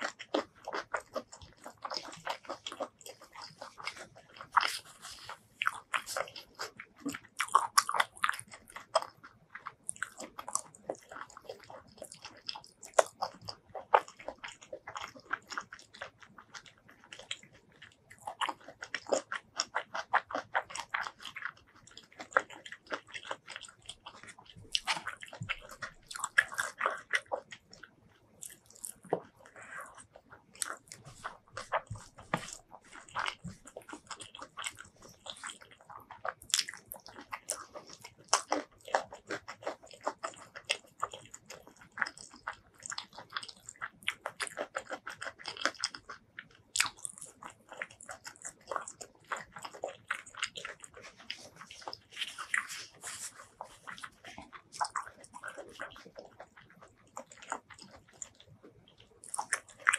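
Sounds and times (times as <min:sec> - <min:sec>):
food crunches: 0:00.0 - 0:59.9
wet chewing and biting: 0:00.0 - 0:59.9.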